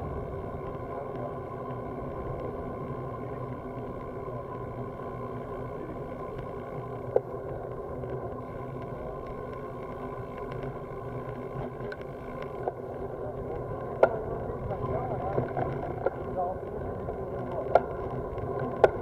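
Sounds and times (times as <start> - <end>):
bicycle rolling on asphalt: 0.0 - 19.0.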